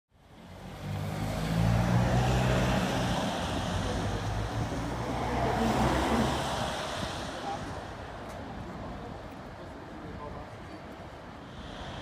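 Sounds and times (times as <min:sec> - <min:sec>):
road noise: 0:00.1 - 0:12.0.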